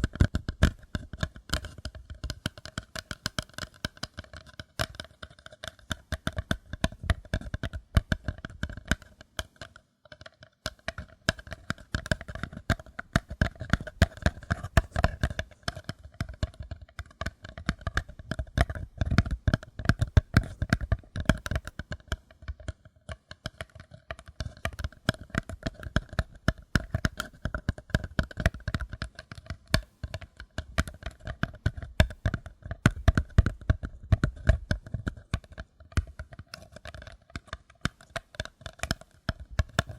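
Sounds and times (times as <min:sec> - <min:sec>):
fingers tapping on paper cup: 0:00.0 - 0:39.9.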